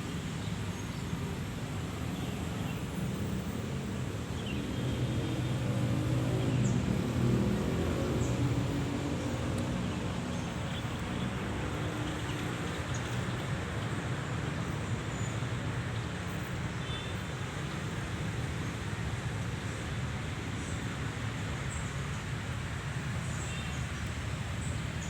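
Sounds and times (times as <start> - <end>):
road traffic rumble: 0.0 - 25.0
vehicle engine hum: 3.2 - 25.0.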